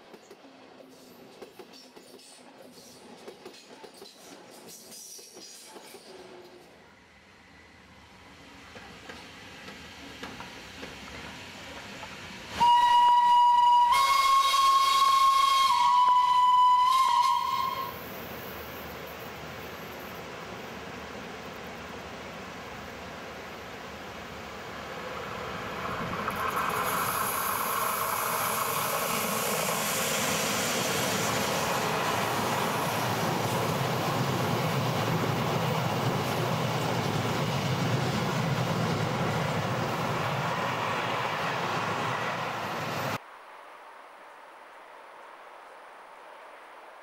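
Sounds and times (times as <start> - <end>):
freight train passing on rails: 0.0 - 43.3.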